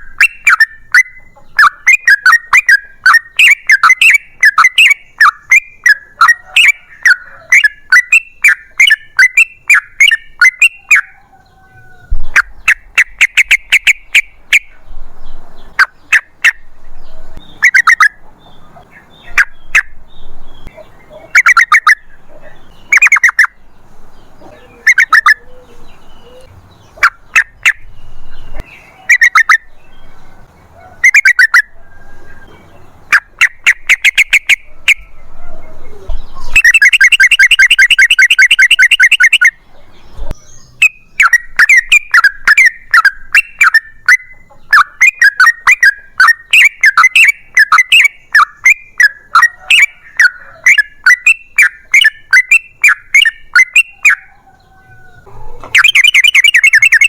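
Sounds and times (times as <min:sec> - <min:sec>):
bird singing bubbling notes: 0:00.0 - 0:11.2, 0:12.3 - 0:14.9, 0:15.8 - 0:18.2, 0:19.0 - 0:23.6, 0:24.4 - 0:30.2, 0:31.0 - 0:31.8, 0:33.1 - 0:35.2, 0:35.9 - 0:54.2, 0:55.8 - 0:57.0.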